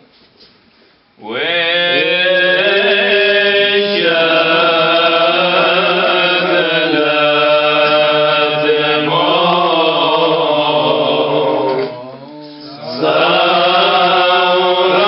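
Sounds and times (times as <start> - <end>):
man chanting a hymn: 1.2 - 15.0.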